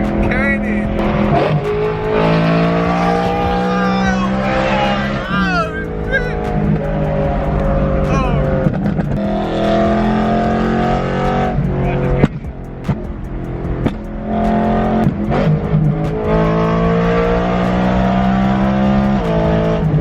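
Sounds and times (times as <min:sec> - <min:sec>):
car engine revving: 0:00.0 - 0:20.0
exhaust pops and cracks: 0:00.0 - 0:20.0.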